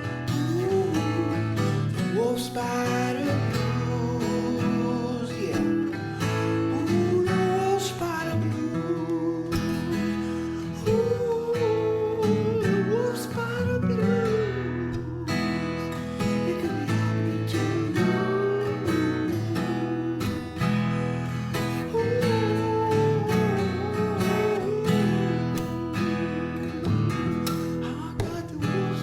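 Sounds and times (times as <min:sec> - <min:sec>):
blues guitar music: 0:00.0 - 0:29.0
bending lead guitar line: 0:02.6 - 0:29.0.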